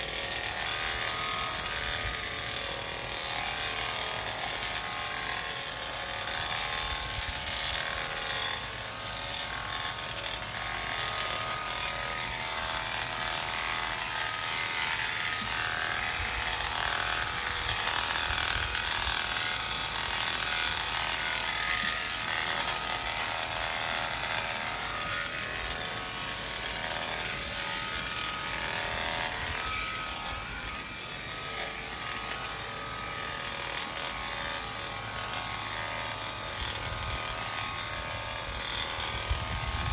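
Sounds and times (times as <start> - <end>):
electric shearing clippers running: 0.0 - 39.9.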